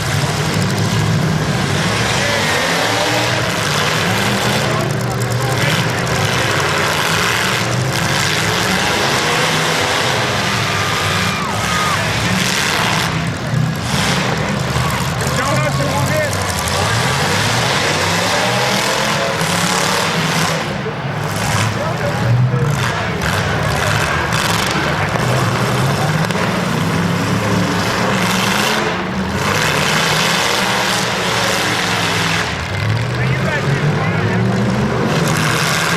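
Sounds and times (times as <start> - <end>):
car engines running loudly: 0.0 - 35.9.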